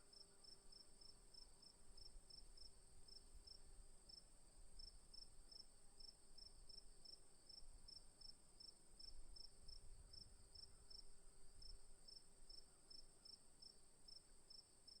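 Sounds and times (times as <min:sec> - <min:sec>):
cricket chirping: 0:00.1 - 0:15.0.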